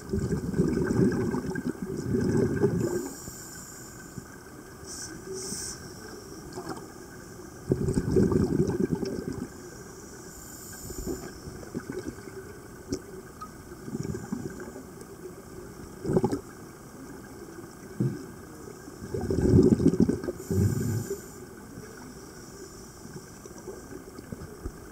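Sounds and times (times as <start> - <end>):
underwater air bubbling: 0.0 - 24.9.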